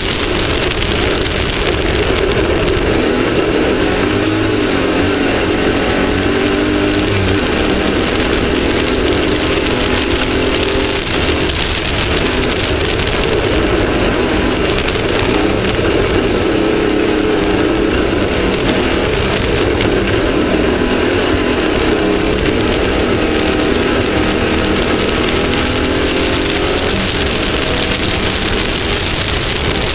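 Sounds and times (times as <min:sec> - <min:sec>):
race vehicle engine running hard: 0:00.0 - 0:29.9
rough terrain noise: 0:00.0 - 0:29.9.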